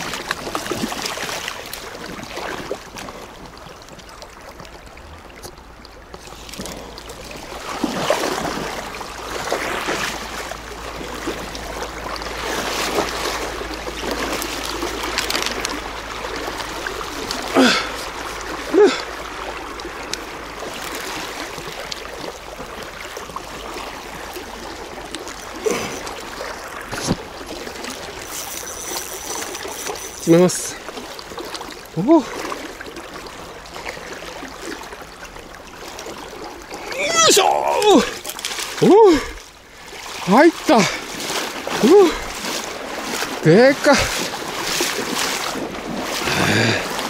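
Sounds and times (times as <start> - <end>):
river water rushing and splashing: 0.0 - 47.0.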